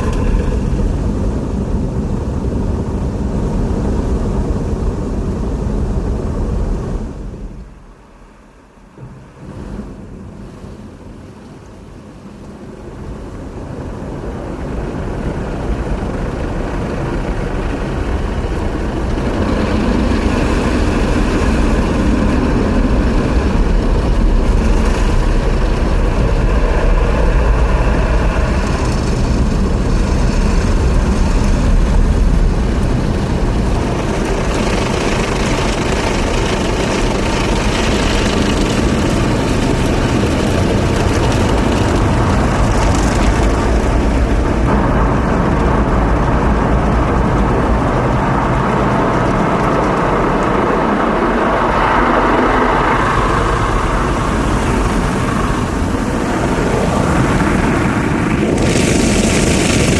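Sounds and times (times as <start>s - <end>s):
car wash machinery rumble and hiss: 0.0s - 59.9s.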